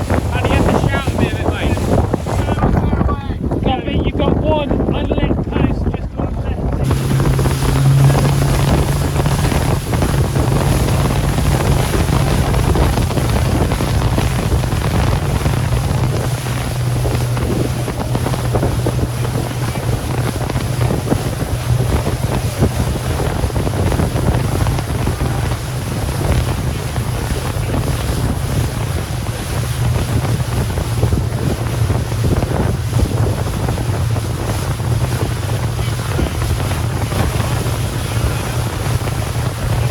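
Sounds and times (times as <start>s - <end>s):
motorboat engine running: 0.0s - 39.9s
rushing water: 0.0s - 39.9s
wind buffeting microphone: 0.0s - 39.9s.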